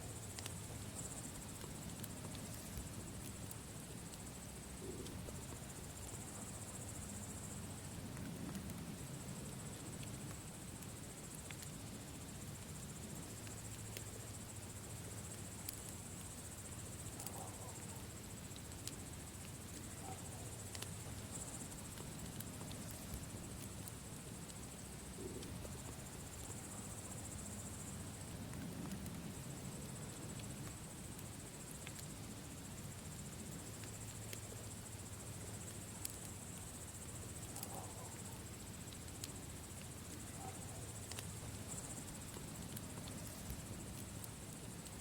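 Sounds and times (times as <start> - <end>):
crickets chirring: 0.0 - 45.0
campfire crackling and popping: 0.2 - 45.0.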